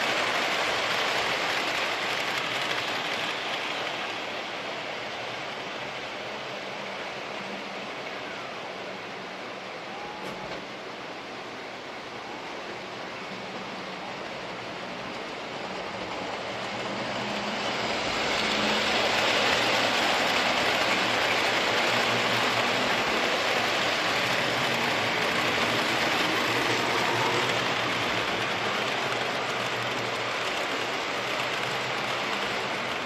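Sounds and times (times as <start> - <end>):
train passing rumble: 0.0 - 33.0.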